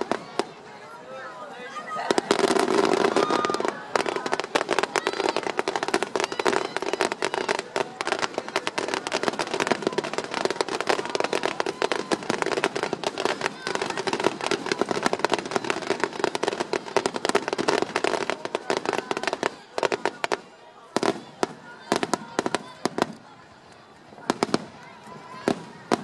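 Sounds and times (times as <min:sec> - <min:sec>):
fireworks bangs and crackles: 0:00.0 - 0:01.0, 0:01.8 - 0:26.0.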